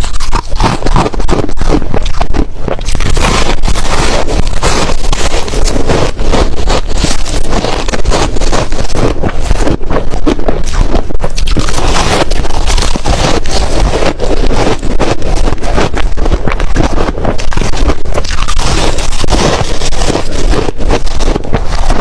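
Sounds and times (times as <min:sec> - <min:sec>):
ice being chewed: 0:00.0 - 0:22.0.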